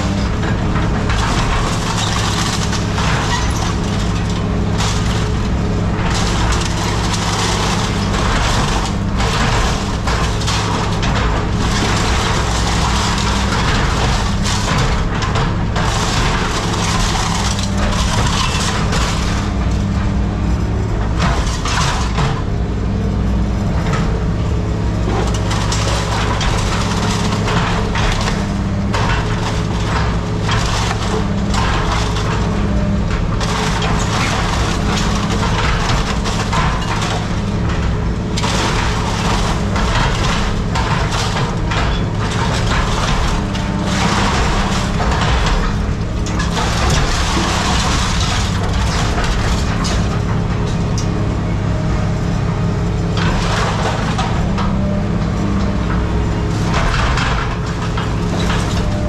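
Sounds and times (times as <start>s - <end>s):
diesel machine running: 0.0s - 59.0s
scrap metal crunching: 0.0s - 59.0s.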